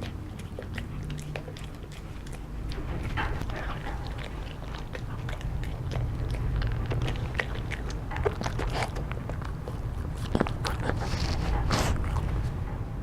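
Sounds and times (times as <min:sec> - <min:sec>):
dog chewing hard treat: 0:00.0 - 0:12.7
low rumble: 0:00.0 - 0:13.0.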